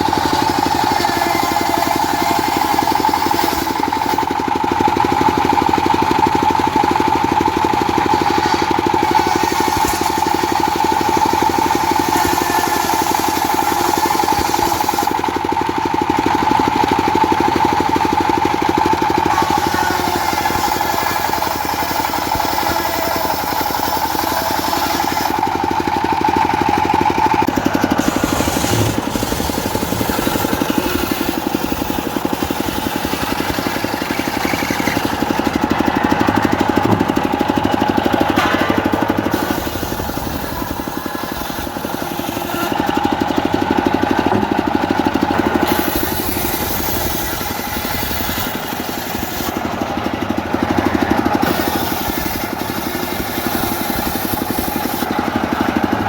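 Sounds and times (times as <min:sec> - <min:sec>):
circular saw whine: 0:00.0 - 0:56.0
diesel engine running: 0:00.0 - 0:56.0.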